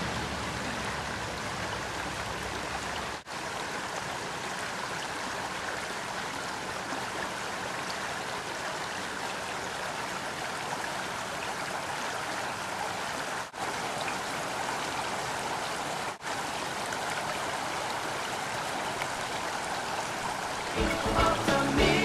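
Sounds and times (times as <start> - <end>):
stream water running over gravel: 0.0 - 22.0.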